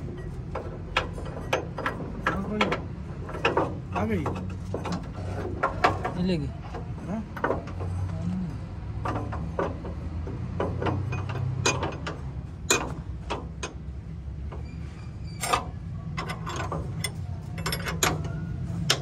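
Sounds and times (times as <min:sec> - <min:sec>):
metal knocks and clinks: 0:00.0 - 0:08.0, 0:09.0 - 0:14.7, 0:15.3 - 0:19.0.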